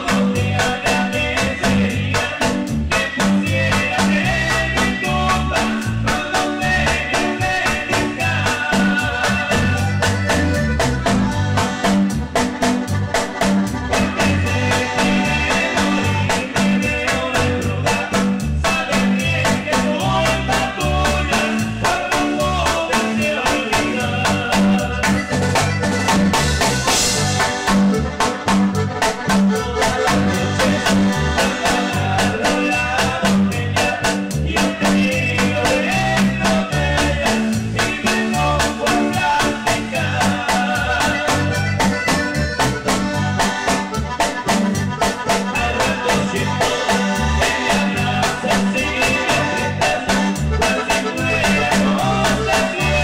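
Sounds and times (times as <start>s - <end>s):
live dance band playing: 0.0s - 53.0s.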